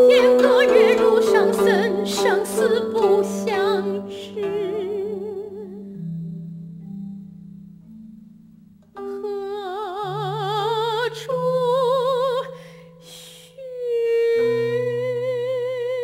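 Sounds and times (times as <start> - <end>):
low held notes: 0.0 - 13.3
wavering vibrato melody: 0.0 - 16.0.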